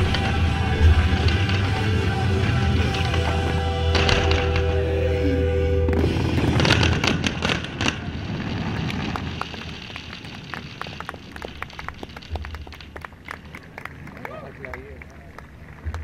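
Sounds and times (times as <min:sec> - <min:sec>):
fireworks crackling pops: 0:00.0 - 0:05.0, 0:05.9 - 0:16.0
fireworks banging: 0:00.0 - 0:16.0.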